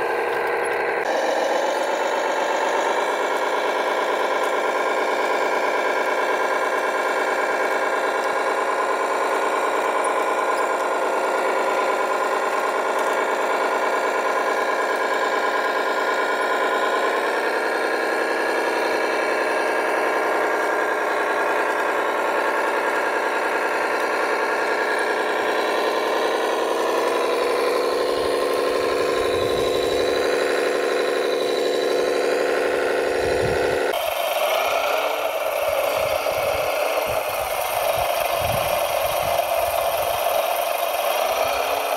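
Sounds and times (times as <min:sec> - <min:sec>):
toy truck motor whining: 0:00.0 - 0:41.9.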